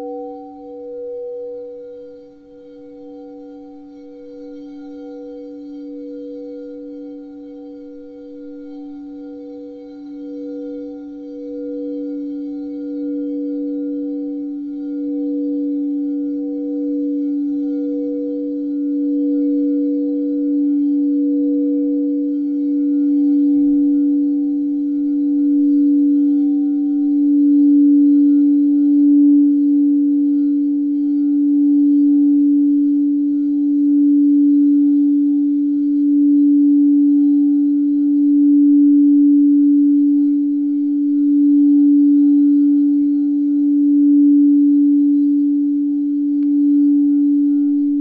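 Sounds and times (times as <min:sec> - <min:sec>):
singing bowl ringing: 0:00.0 - 0:48.0.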